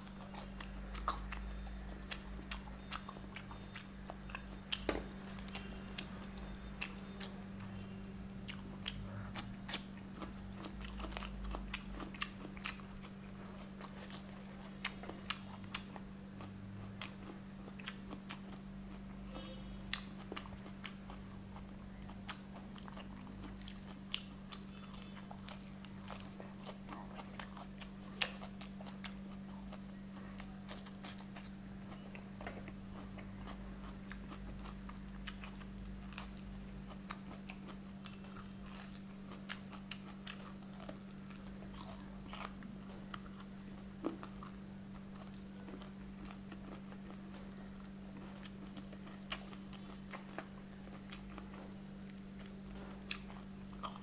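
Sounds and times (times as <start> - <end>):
crunchy chewing: 0.0 - 54.0
steady low hum: 0.0 - 54.0.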